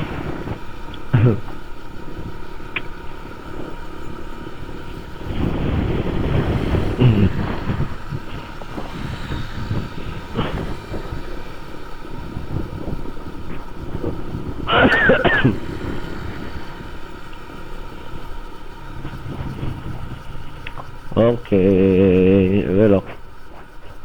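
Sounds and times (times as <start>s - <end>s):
wind rushing over microphone: 0.0s - 23.4s
motorcycle engine and road noise: 0.0s - 24.0s.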